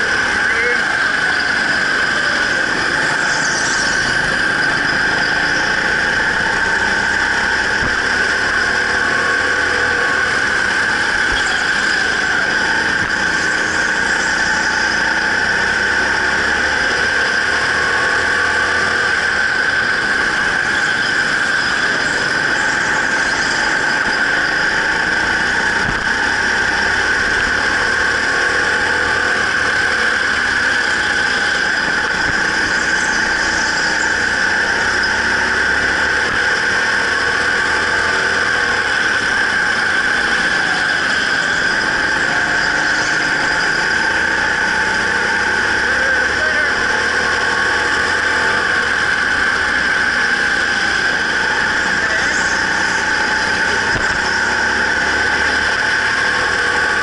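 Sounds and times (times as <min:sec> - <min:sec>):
go-kart engine whining: 0:00.0 - 0:57.0.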